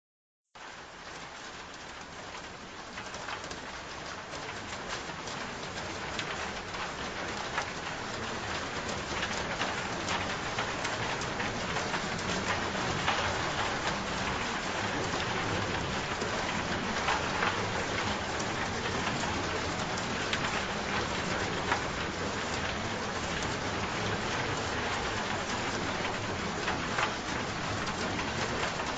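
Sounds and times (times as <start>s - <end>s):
raindrops ticking on a surface: 0.6s - 28.9s
steady rain falling: 0.6s - 28.9s.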